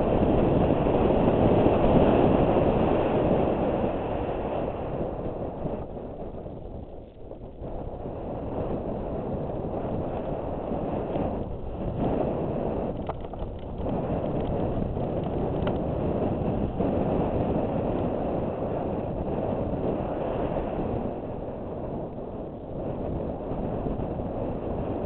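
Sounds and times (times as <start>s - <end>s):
bike tyres rolling over gravel: 0.0s - 25.0s
wind buffeting microphone: 0.0s - 25.0s.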